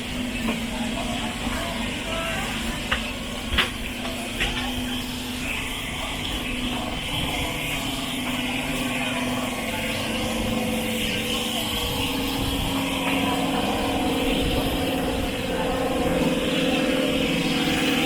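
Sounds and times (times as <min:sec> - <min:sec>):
crowd chatter: 0:00.0 - 0:18.0.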